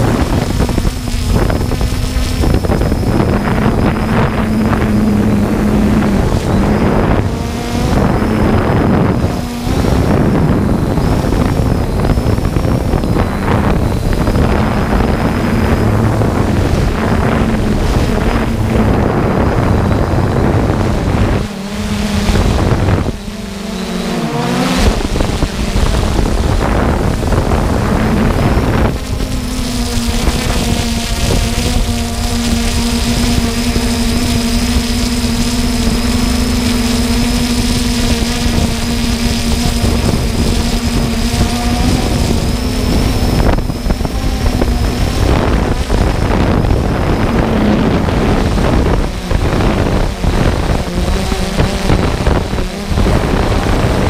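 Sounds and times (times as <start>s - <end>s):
drone propellers buzzing: 0.0s - 54.0s
high whine: 0.0s - 54.0s
wind buffeting microphone: 0.0s - 54.0s.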